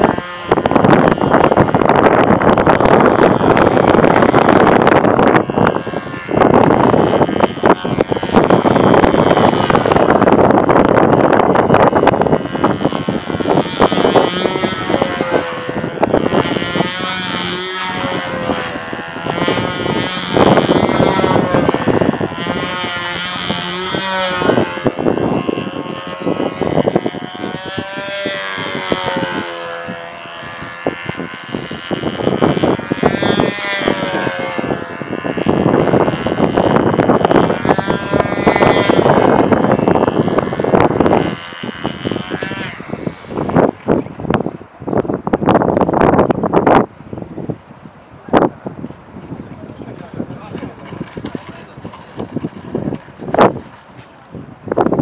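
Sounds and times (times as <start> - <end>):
model aircraft engine: 0.0 - 55.0
wind buffeting microphone: 0.0 - 55.0.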